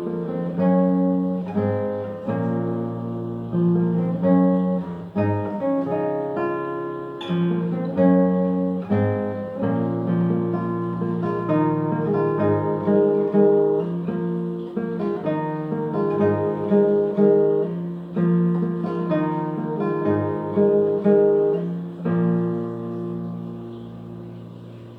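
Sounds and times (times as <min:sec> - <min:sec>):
fingerstyle acoustic guitar: 0:00.0 - 0:24.9.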